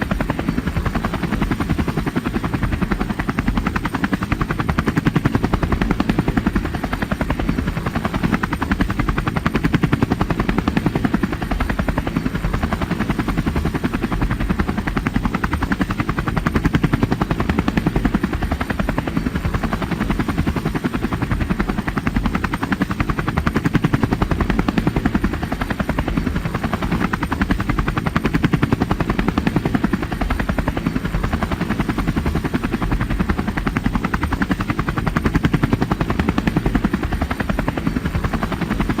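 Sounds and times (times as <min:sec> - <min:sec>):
helicopter engine whine: 0:00.0 - 0:39.0
helicopter rotor chopping: 0:00.0 - 0:39.0.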